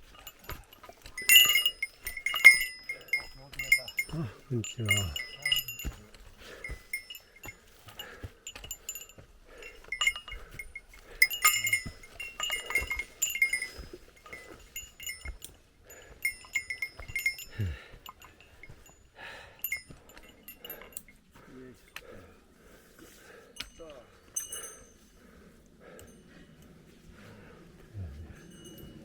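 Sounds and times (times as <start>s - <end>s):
bear bell jingling: 0.0s - 22.3s, 22.9s - 29.0s.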